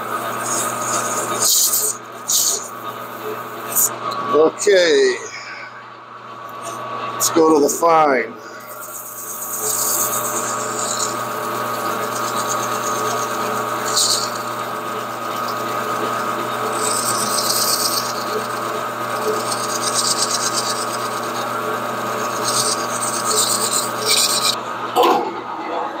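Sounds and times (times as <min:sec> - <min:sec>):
metal lathe humming: 0:00.0 - 0:26.0.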